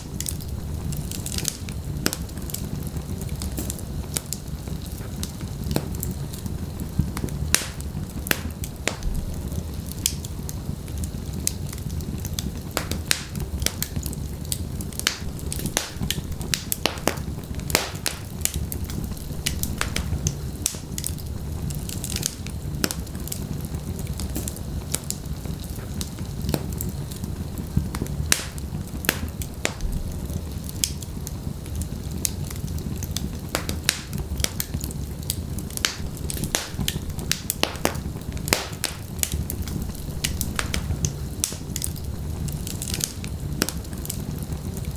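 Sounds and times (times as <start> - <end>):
burning logs crackling and popping: 0.0 - 44.9
low rumble of flames: 0.0 - 44.9.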